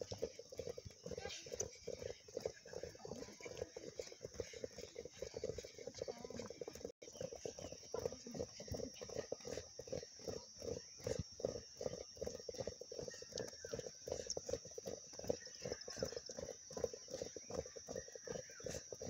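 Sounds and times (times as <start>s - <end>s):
feet tapping footballs: 0.0s - 19.0s.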